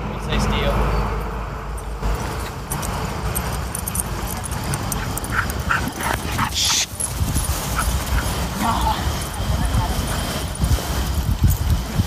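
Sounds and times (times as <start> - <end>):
dogs barking and yipping: 2.0 - 12.0.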